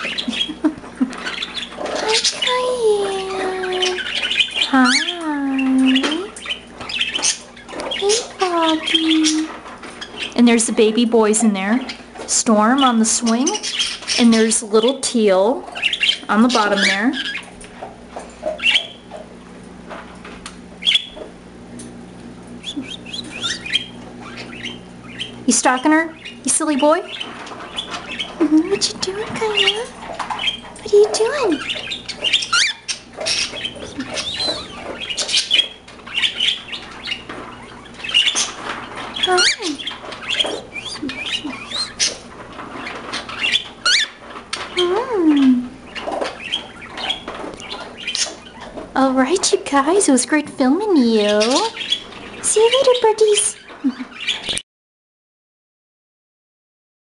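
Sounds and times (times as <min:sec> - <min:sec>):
small birds chirping: 0:00.0 - 0:19.9, 0:20.5 - 0:54.6
steady low hum: 0:00.0 - 0:54.4.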